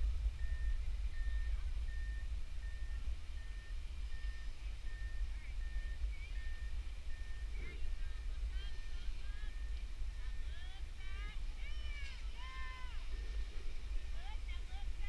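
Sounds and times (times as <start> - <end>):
backup alarm beeping: 0.0 - 15.0
wind rumble on microphone: 0.0 - 15.0.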